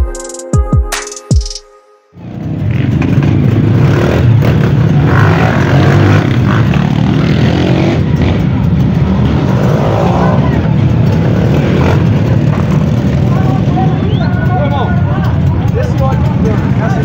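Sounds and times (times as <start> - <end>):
motorcycle engines running: 2.2 - 17.0.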